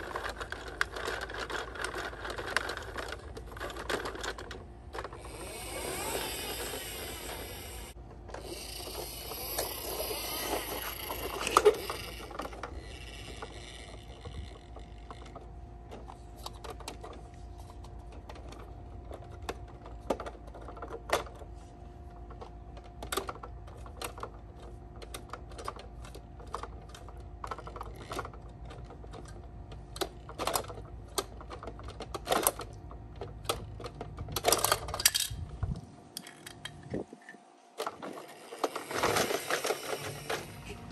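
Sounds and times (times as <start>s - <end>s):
toy mechanism whirring and clicking: 0.0s - 40.9s.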